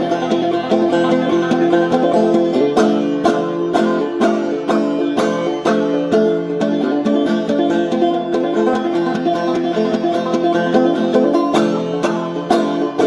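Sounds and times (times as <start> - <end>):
banjo playing with percussive clicks: 0.0 - 13.0.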